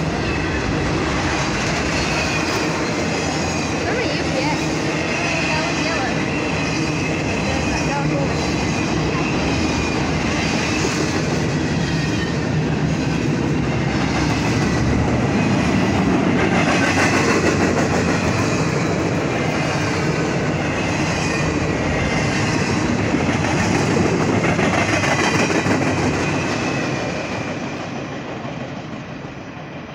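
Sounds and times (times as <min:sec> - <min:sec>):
steel wheels clattering over rail joints: 0:00.0 - 0:28.8.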